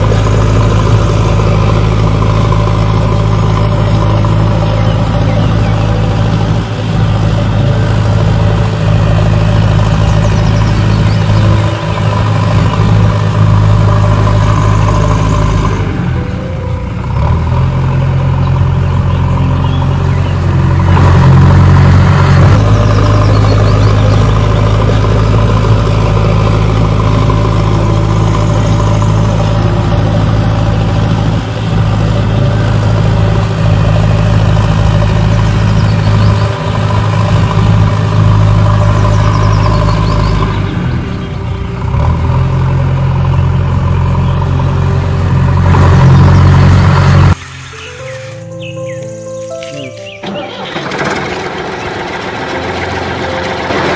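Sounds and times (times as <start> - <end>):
engine humming: 0.0 - 53.9.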